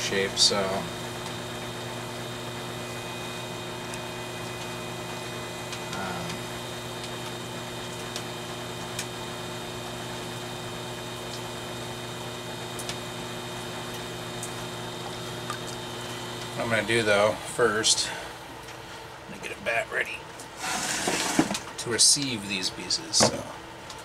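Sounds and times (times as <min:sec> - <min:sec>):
potter's wheel humming: 0:00.0 - 0:24.0.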